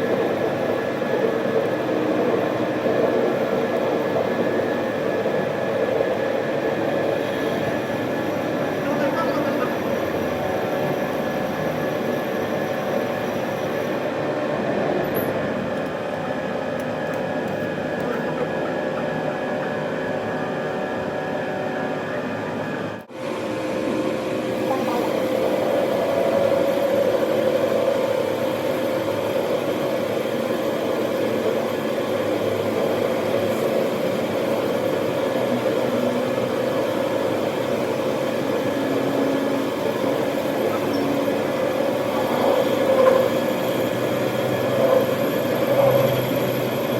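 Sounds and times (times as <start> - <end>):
workshop machinery drone: 0.0 - 46.9.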